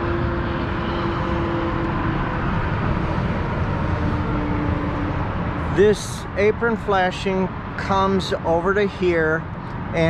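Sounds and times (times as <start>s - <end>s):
faint steady drone: 0.0s - 9.8s
low outdoor rumble: 0.0s - 10.0s.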